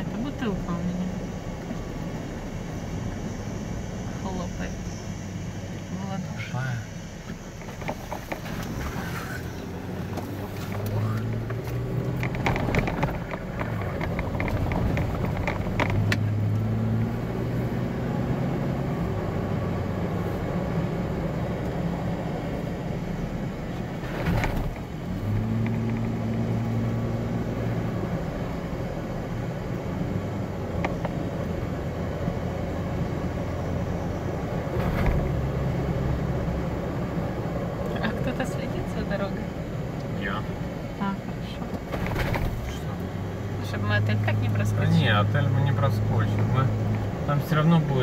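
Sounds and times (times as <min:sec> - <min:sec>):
vehicle engine and tyres on sand: 0:00.0 - 0:48.0.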